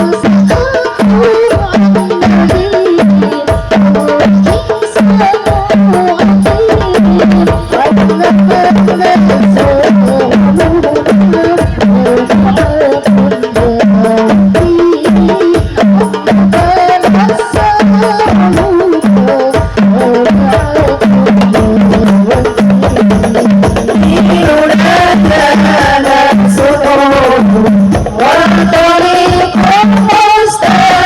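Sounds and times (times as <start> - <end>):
frame drums fast rhythm: 0.0 - 31.0
person singing: 0.0 - 31.0.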